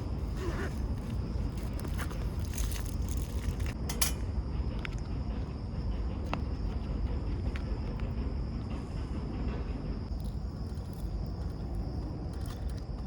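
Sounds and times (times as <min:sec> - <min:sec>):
gear clicks and rustles: 0:00.0 - 0:08.8, 0:09.5 - 0:13.0.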